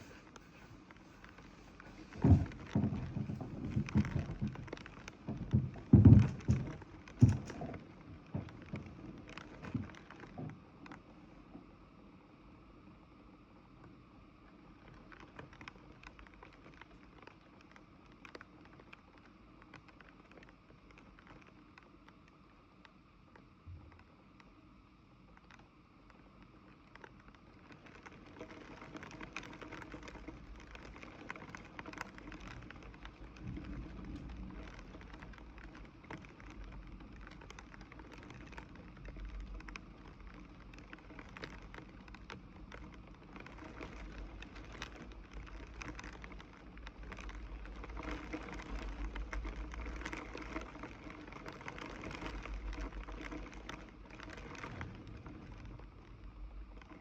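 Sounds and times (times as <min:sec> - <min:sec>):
rain pattering on hard surface: 0:00.0 - 0:57.0.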